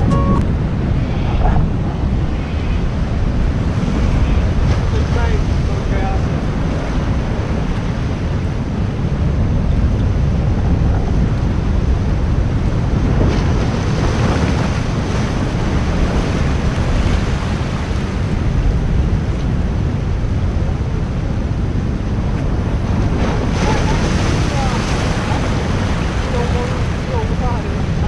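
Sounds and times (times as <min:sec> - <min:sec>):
heavy surf on rocks: 0:00.0 - 0:28.0
wind buffeting microphone: 0:00.0 - 0:28.0.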